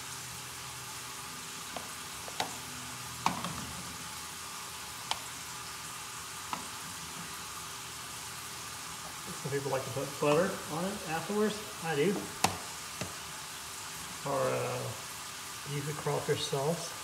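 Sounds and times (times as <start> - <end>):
gas burner hissing: 0.0 - 17.0.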